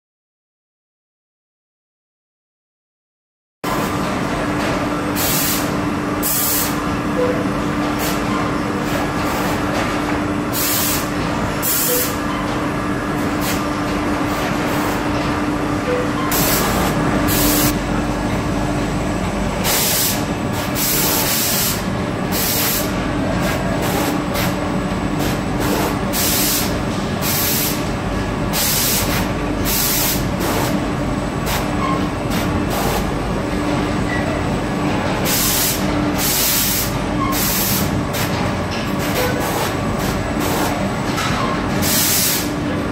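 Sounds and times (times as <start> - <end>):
machine hum: 3.7 - 42.9.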